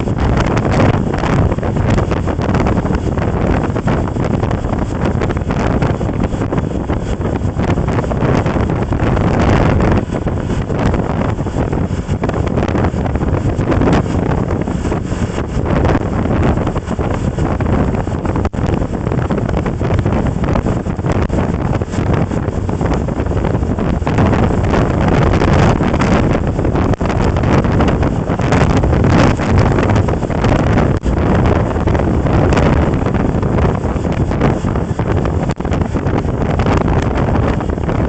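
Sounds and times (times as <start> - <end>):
rumble of movement noise: 0.0 - 38.0
wind buffeting microphone: 0.0 - 38.0.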